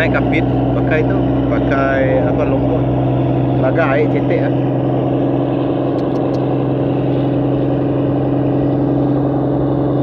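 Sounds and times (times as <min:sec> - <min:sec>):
boat diesel engines droning: 0:00.0 - 0:10.0
water rushing along hull: 0:00.0 - 0:10.0.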